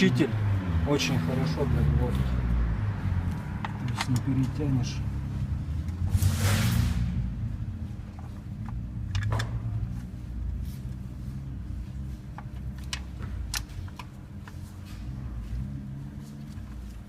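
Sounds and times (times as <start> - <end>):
steady low hum: 2.3 - 17.0.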